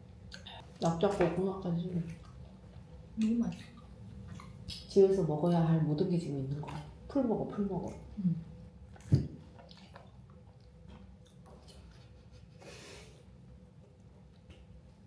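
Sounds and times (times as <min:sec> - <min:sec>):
quiet chewing: 0:00.2 - 0:05.0, 0:06.5 - 0:15.0.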